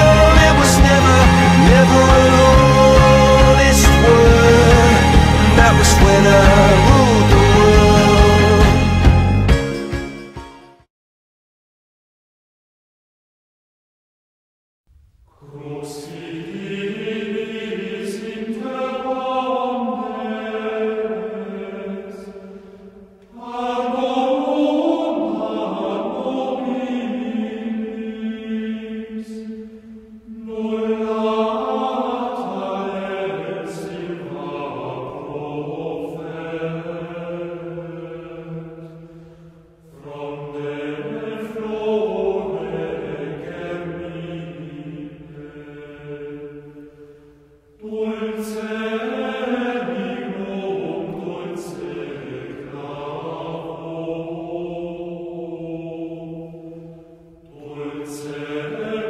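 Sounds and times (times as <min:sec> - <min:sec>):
slow unaccompanied sung chant: 0:00.0 - 0:09.0, 0:15.3 - 0:59.0.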